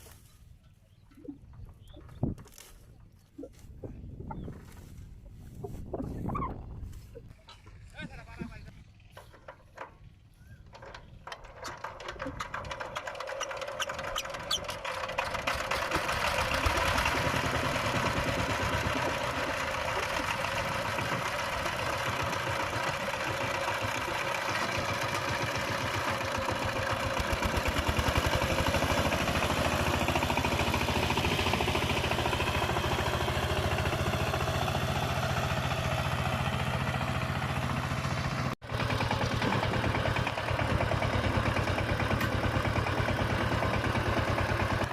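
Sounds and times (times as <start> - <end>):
diesel engine starting and running: 8.8 - 44.9.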